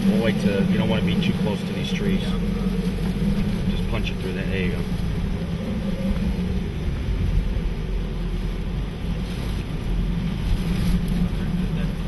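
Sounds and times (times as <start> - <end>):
engine hum: 0.0 - 12.0
tyres on wet road: 0.0 - 12.0
wind and rain lashing vehicle: 0.0 - 12.0.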